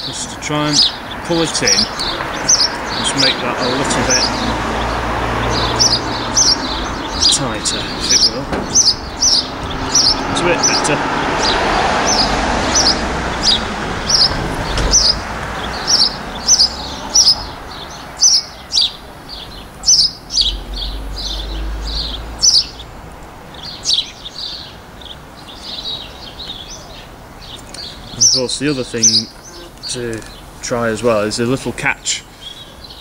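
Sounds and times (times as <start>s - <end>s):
small bird chirping: 0.0s - 30.8s
soft background rush: 0.0s - 32.9s.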